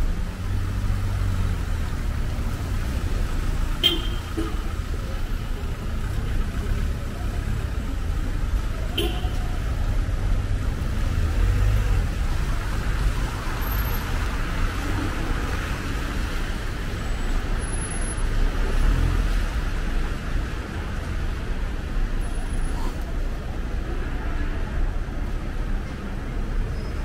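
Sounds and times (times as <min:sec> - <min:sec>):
passing cars: 0:00.0 - 0:27.0.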